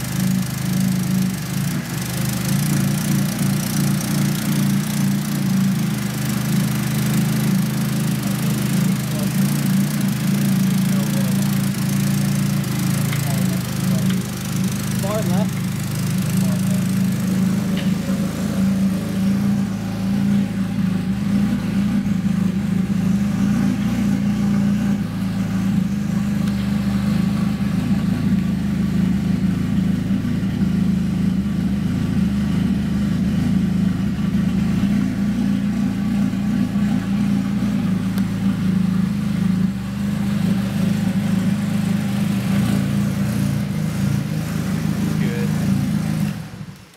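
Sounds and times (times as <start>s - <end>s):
car engine running: 0.0s - 46.9s
engine knocking: 0.0s - 46.9s.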